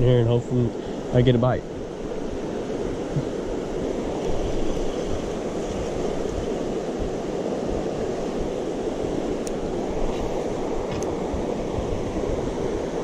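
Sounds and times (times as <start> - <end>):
water rushing over rapids: 1.7 - 13.0.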